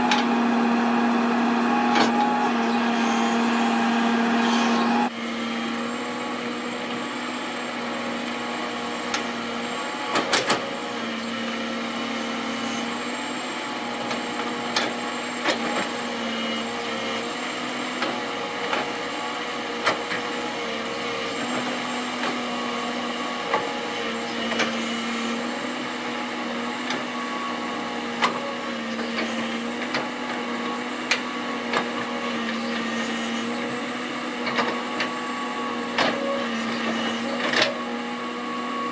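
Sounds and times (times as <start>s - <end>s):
earthmoving machinery engine drone: 0.0s - 38.9s.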